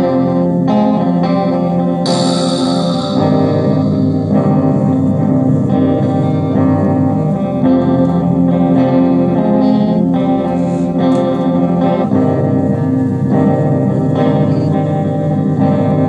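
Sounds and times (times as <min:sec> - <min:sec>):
guitar chords: 0:00.0 - 0:16.0.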